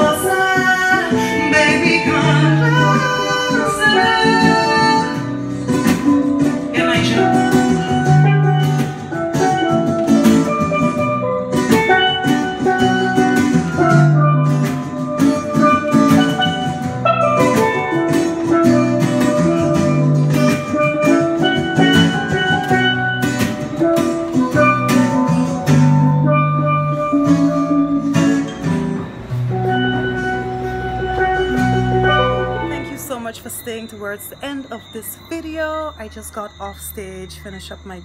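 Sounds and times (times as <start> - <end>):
steelpan melody: 0.0 - 38.0
strummed acoustic guitar: 0.0 - 38.0
percussive beat: 1.5 - 33.0.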